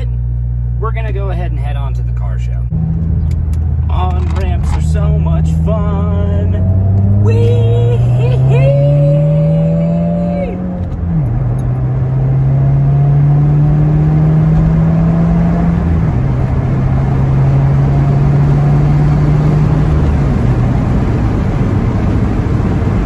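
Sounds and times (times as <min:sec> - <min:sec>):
road noise: 0:00.0 - 0:23.0
car engine accelerating: 0:02.6 - 0:23.0.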